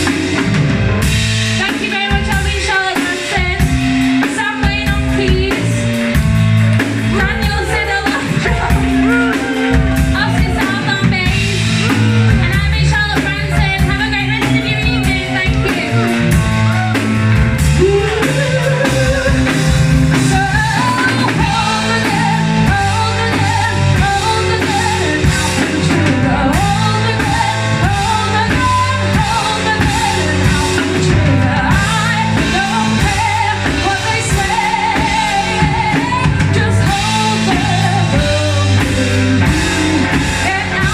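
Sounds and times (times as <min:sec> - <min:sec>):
live rock band playing: 0:00.0 - 0:40.9
person singing: 0:07.1 - 0:40.9.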